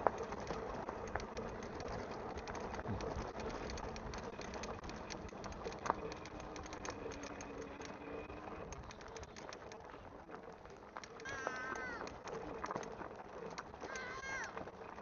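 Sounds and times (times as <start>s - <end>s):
bicycle clicks and rattles: 0.0s - 15.0s
bicycle tyres crunching over gravel: 0.0s - 15.0s.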